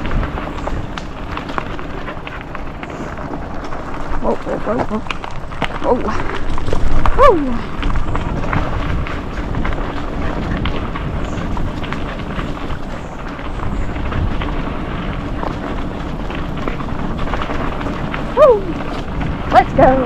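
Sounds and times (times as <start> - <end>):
bike rattles and knocks: 0.0 - 20.0
bike tyres rumbling on dirt: 0.0 - 20.0
wind buffeting microphone: 0.0 - 20.0.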